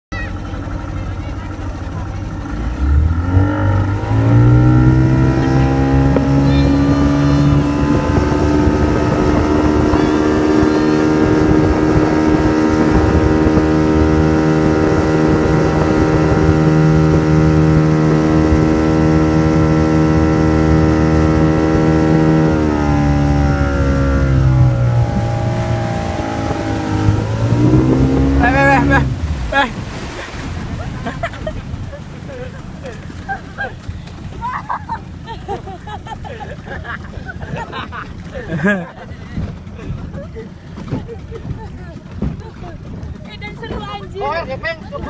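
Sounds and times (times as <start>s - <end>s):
motorboat engine speeding up: 0.1s - 45.0s.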